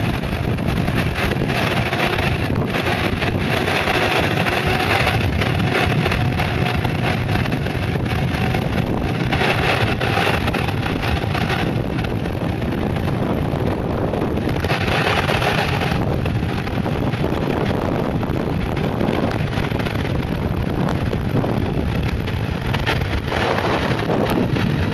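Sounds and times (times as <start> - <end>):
tyres rolling on asphalt: 0.0 - 24.9
wind buffeting microphone: 0.0 - 24.9.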